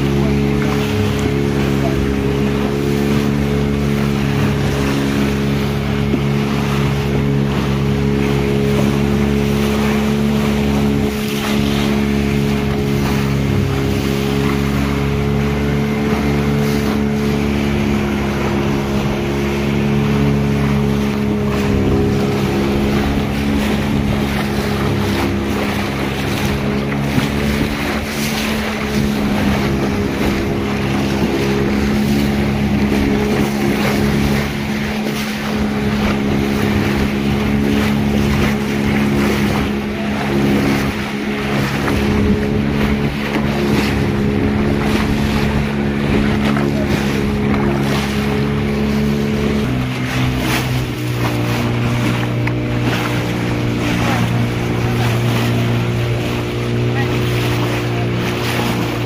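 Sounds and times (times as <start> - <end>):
motorboat engine running: 0.0 - 59.0
rushing sea water: 0.0 - 59.0
wind on microphone: 0.0 - 59.0.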